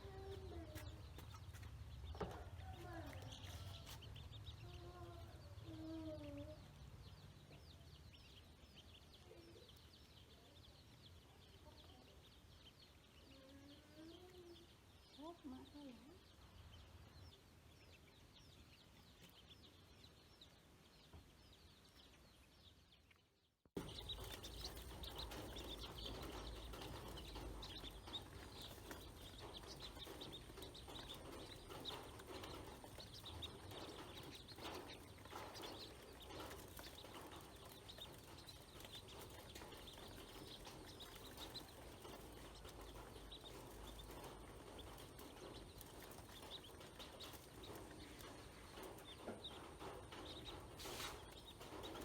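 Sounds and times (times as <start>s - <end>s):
ducklings peeping: 0.0s - 23.2s, 23.8s - 52.0s.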